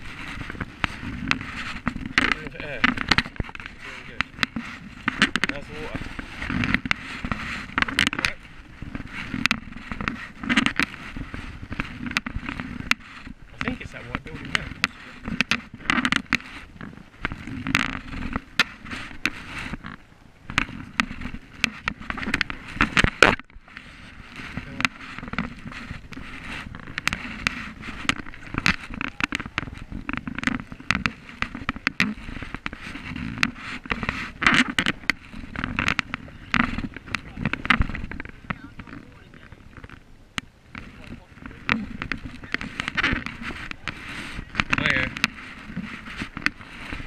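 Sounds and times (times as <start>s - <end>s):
paddle splashing in water: 0.0s - 47.0s
water and paddle clicks and knocks: 0.0s - 47.0s.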